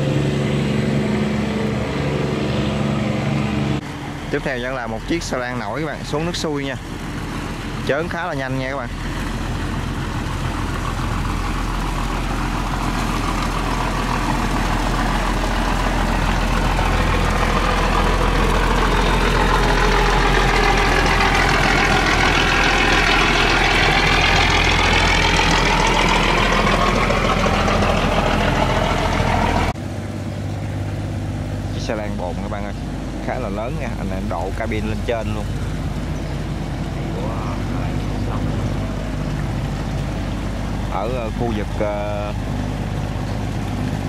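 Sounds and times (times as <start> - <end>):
barge engine passing: 0.0 - 44.0
whine bending in pitch: 0.0 - 44.0.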